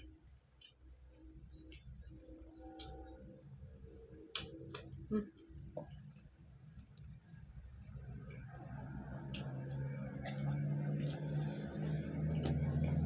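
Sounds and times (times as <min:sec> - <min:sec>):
chewing with clicks and smacks: 0:00.0 - 0:03.3, 0:04.3 - 0:11.4, 0:12.2 - 0:13.0.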